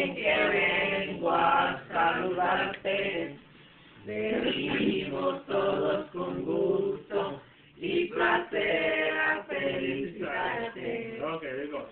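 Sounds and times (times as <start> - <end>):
group of people singing: 0.0 - 11.9.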